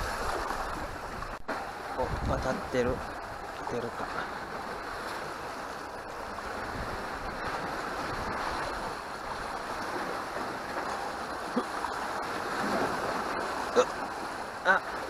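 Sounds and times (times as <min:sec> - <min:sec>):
sea waves washing among concrete: 0:00.0 - 0:15.0.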